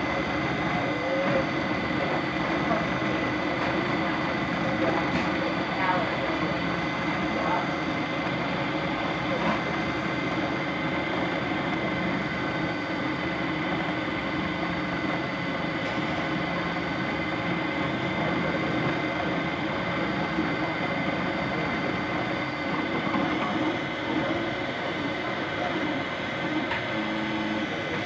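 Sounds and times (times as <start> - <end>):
printer mechanical whirr: 0.0 - 28.0.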